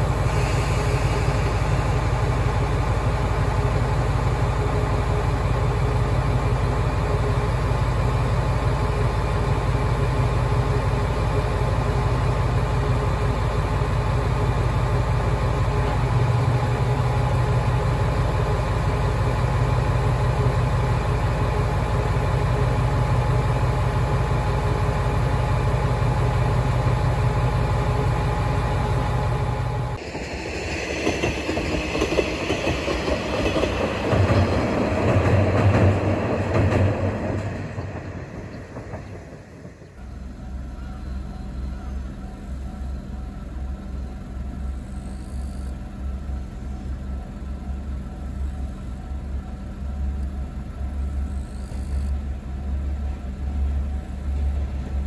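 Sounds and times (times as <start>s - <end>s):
diesel railcar idling: 0.0s - 55.0s
railcar running on rails: 0.0s - 55.0s.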